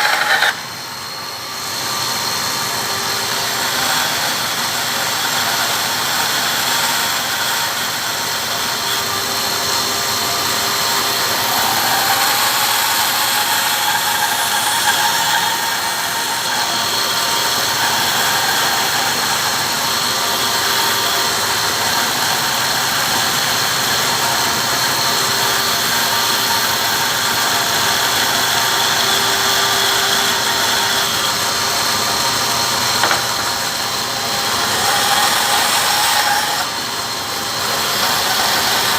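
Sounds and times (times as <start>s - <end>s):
electric saw cutting wood: 0.0s - 38.9s.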